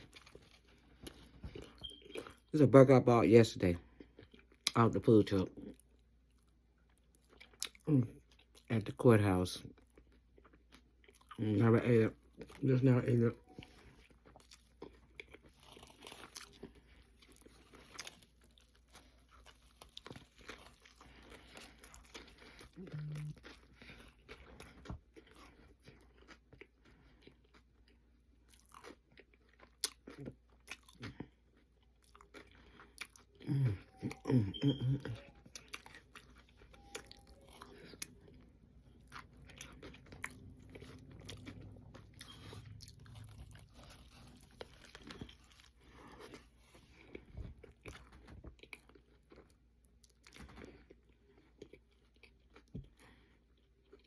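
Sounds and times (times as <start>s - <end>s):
person chewing food: 0.0s - 2.5s, 3.8s - 8.9s, 9.6s - 54.0s.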